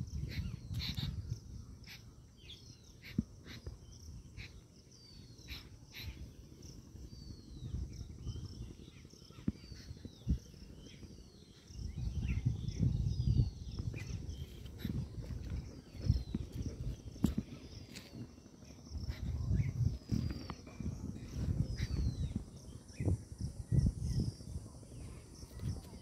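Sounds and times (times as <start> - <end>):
birds calling harsh notes: 0.0 - 23.2
low rumble on microphone: 0.0 - 26.0.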